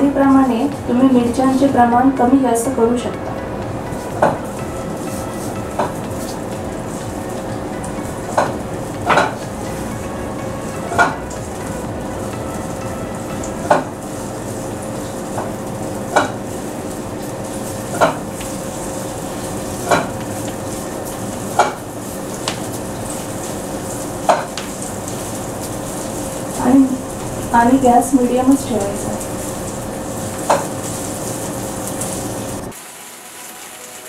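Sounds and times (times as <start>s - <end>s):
vegetables sizzling in a pan: 0.0s - 34.0s.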